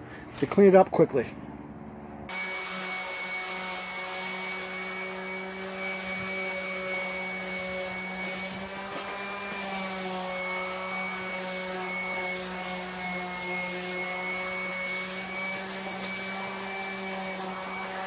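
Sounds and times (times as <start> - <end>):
orbital sander on wood: 2.3 - 18.0.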